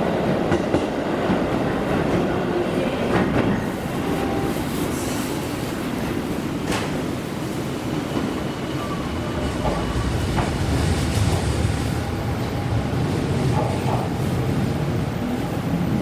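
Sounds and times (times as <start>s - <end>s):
train cars rumbling: 0.0s - 16.0s.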